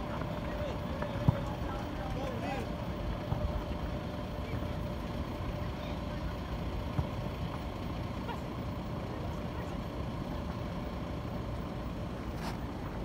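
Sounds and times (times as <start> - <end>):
faint distant voices: 0.0 - 11.1
low outdoor rumble: 0.0 - 13.0.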